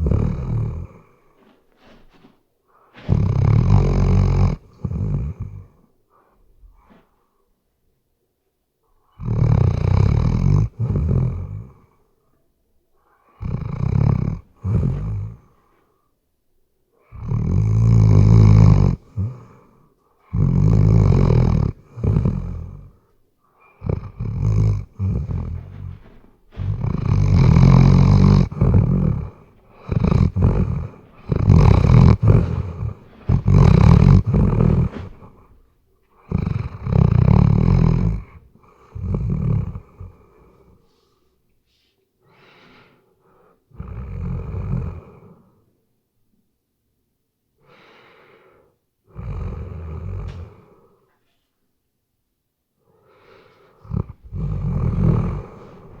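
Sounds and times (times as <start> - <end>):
dog snoring: 0.0 - 7.2, 9.1 - 12.1, 13.0 - 15.9, 17.0 - 41.2, 42.4 - 45.6, 47.6 - 51.2, 53.0 - 56.0.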